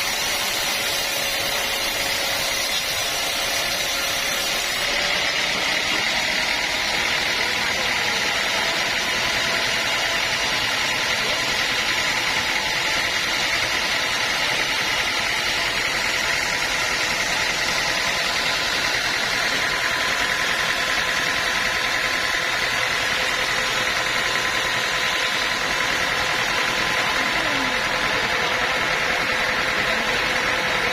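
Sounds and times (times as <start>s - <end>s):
sawmill machinery drone: 0.0s - 30.9s.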